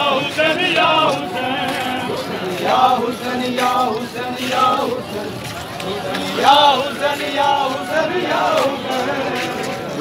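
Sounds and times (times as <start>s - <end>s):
crowd of men chanting: 0.0s - 10.0s.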